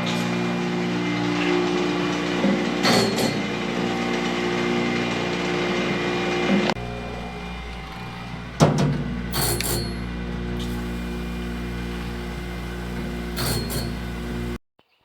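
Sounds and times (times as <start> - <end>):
machine humming drone: 0.0 - 14.6.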